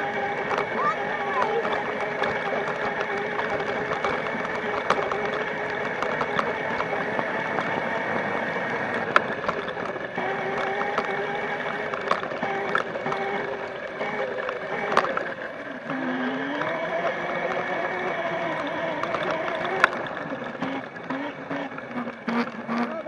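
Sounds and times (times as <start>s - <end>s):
dirt bike engine buzzing: 0.0s - 23.0s
ticks and rattles: 0.0s - 23.0s.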